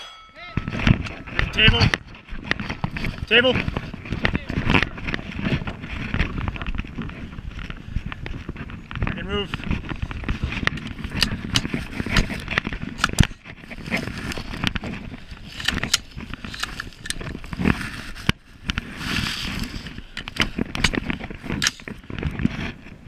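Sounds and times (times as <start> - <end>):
rifle and gear rattling: 0.4 - 23.0.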